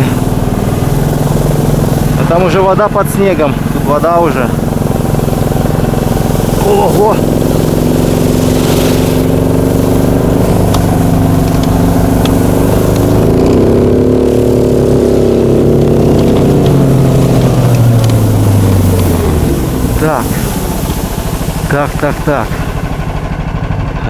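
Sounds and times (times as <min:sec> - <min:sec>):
small engine revving under load: 0:00.0 - 0:24.0.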